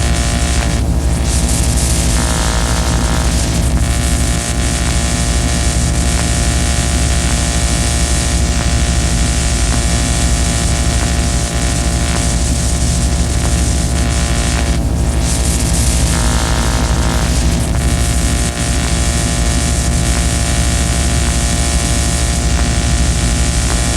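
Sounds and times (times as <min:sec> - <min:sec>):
droning low hum: 0:00.0 - 0:23.9
harsh noise music hiss: 0:00.0 - 0:23.9.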